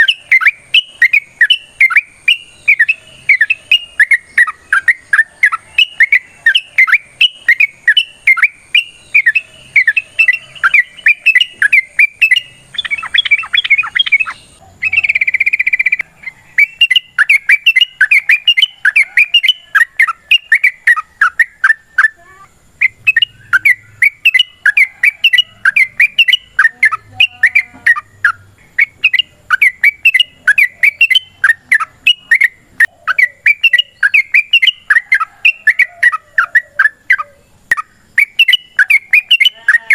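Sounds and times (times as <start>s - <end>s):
bulbul chattering song: 0.0s - 39.9s
harsh buzzy bird call: 0.0s - 39.9s.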